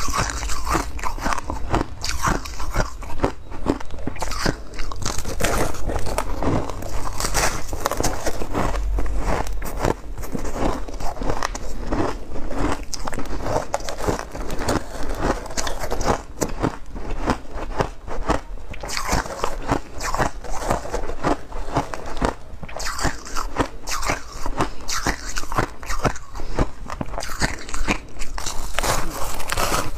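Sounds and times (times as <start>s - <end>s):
ice being chewed: 0.0s - 29.9s.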